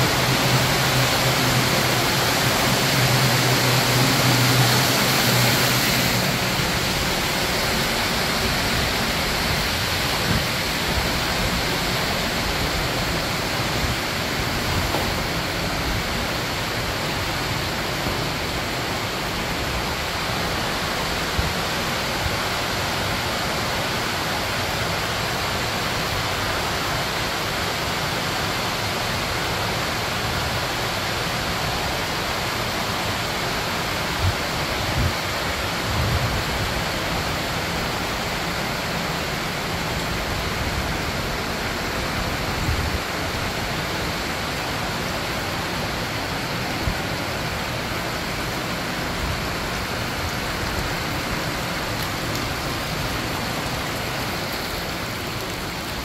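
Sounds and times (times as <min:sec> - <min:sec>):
creek running: 0:00.0 - 0:56.0
waterfall rushing: 0:00.0 - 0:56.0.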